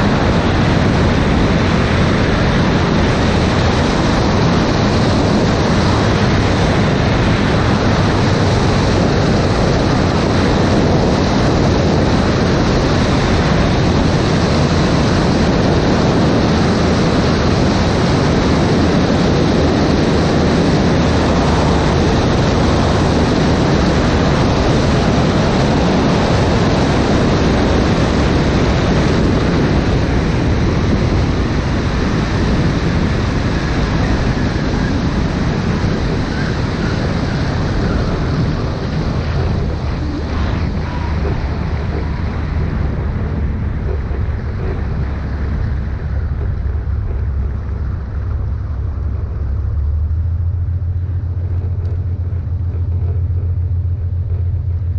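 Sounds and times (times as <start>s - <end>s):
propeller plane engine: 0.0s - 54.9s
rushing wind: 0.0s - 54.9s.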